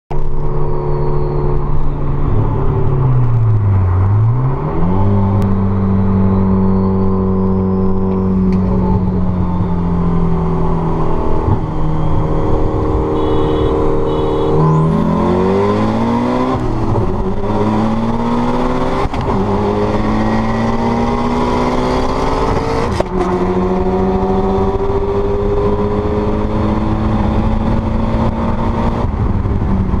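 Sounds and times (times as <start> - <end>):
car engine at full throttle: 0.1 - 30.0.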